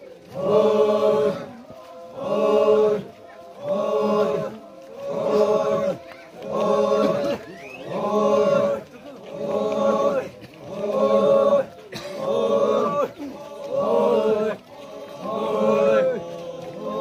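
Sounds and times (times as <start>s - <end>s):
voices chanting in unison: 0.0s - 17.0s.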